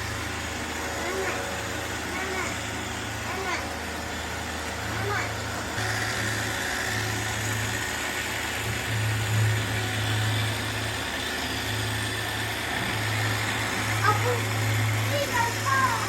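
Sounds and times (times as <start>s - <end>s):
robot vacuum motor whirring: 0.0s - 16.0s.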